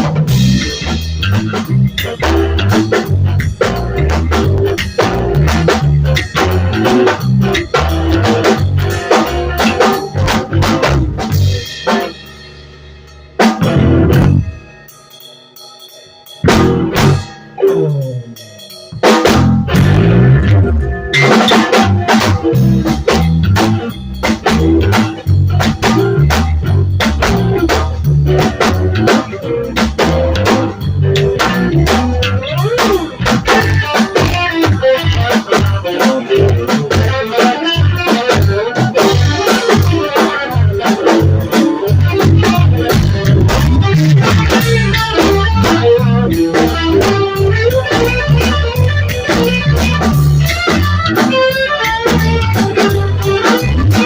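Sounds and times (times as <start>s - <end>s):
bass line: 0.0s - 14.9s, 16.4s - 54.0s
guitar playing: 0.0s - 15.1s, 16.4s - 54.0s
drum kit groove: 0.0s - 54.0s
live band jamming: 0.0s - 54.0s.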